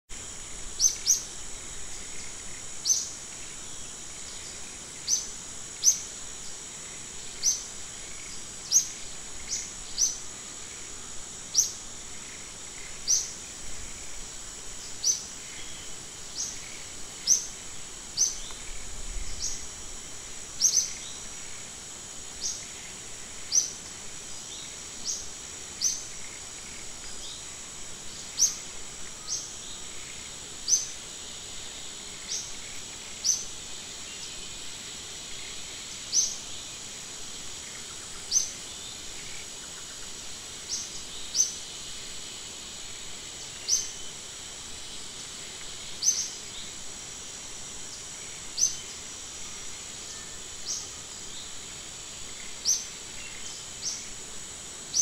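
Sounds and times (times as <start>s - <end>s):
high insect drone: 0.1s - 55.0s.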